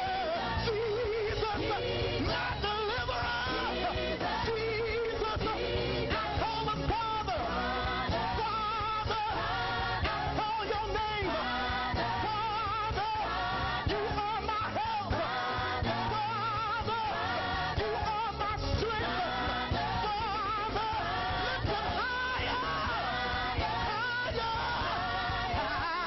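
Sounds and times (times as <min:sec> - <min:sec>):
band with steady bass line: 0:00.0 - 0:26.0
voices singing with vibrato: 0:00.0 - 0:26.0.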